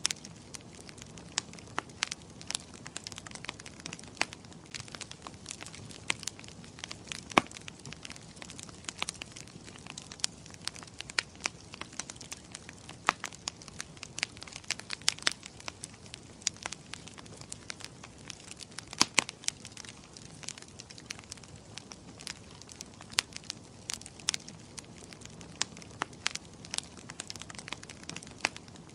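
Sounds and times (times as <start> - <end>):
soft fire hiss: 0.0 - 28.9
wood fire crackling and popping: 0.0 - 28.9.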